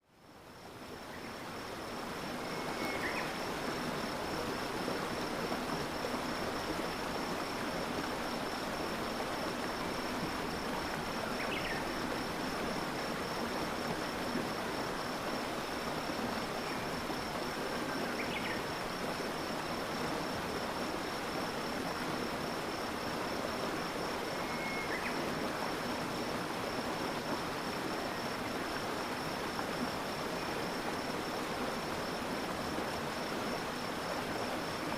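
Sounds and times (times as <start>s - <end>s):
stream of water flowing: 0.0s - 34.9s.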